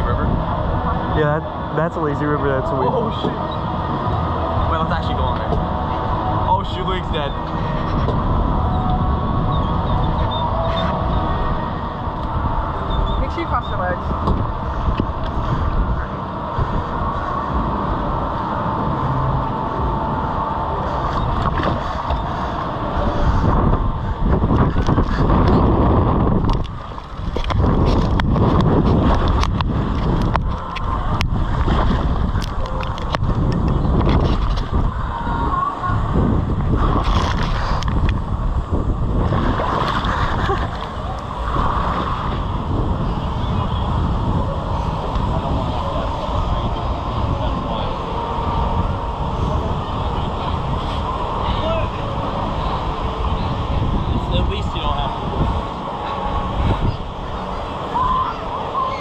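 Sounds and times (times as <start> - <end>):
water rushing and splashing: 0.0 - 59.0
wind on microphone: 0.0 - 59.0.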